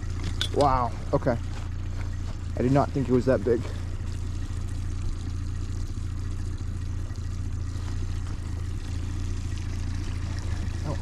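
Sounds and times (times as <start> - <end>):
boat motor idling: 0.0 - 11.0.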